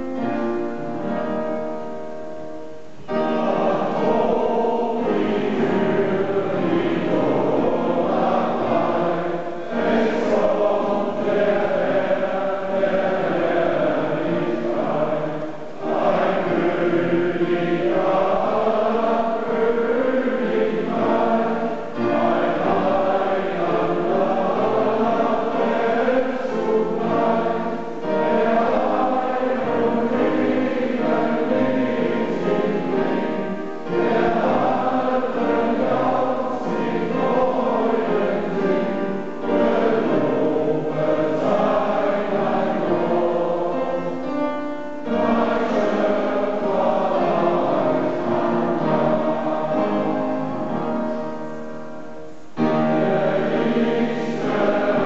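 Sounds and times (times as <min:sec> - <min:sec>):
keyboard passage: 0:00.0 - 0:55.0
male voice choir singing: 0:03.0 - 0:51.5, 0:52.6 - 0:55.0.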